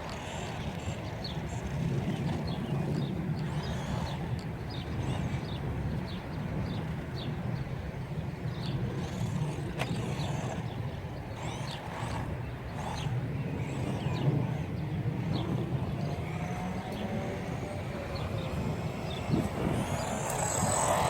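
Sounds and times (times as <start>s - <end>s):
rc car drive rumble: 0.0s - 21.0s
rc car electric motor whining: 0.0s - 21.0s.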